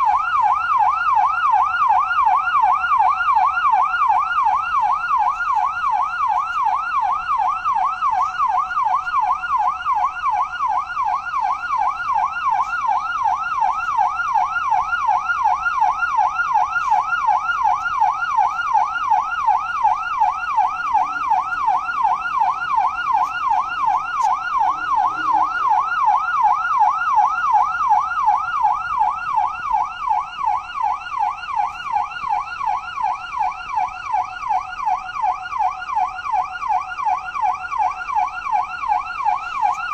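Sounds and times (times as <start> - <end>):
electronic siren yelping: 0.0 - 39.9.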